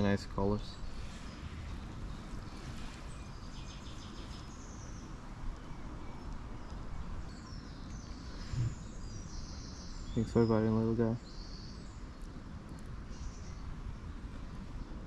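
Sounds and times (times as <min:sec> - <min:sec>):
steady low rumble: 0:00.0 - 0:15.0
faint bird chirps: 0:00.3 - 0:13.7.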